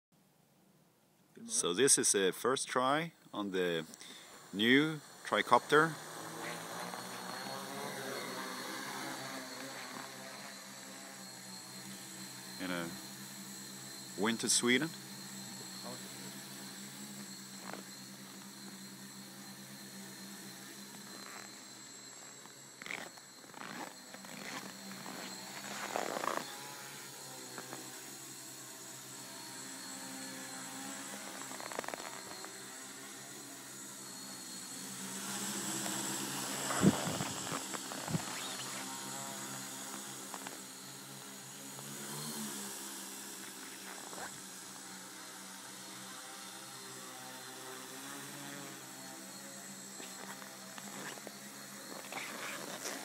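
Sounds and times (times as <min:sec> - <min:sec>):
drone propellers buzzing: 0:03.5 - 0:53.0.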